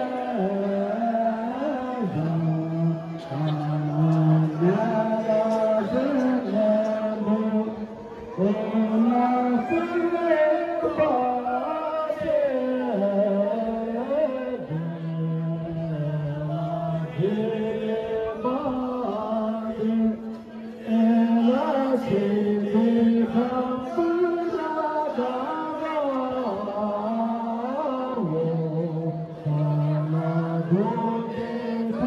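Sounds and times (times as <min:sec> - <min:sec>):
voices singing a slow chant: 0:00.0 - 0:32.0.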